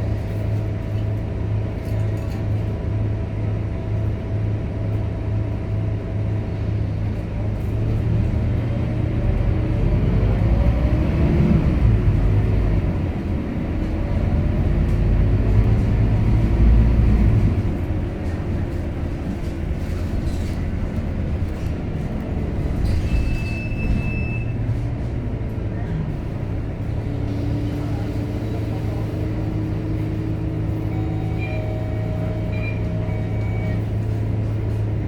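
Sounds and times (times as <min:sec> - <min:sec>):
bus diesel engine rumbling: 0:00.0 - 0:35.0.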